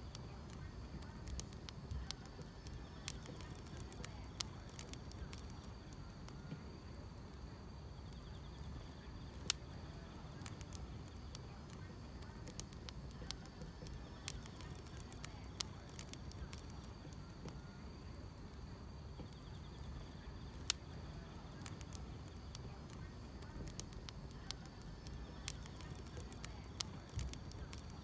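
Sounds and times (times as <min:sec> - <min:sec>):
insects chirring: 0:00.0 - 0:28.0
low steady rumble: 0:00.0 - 0:28.0
wood fire crackling: 0:00.0 - 0:28.0.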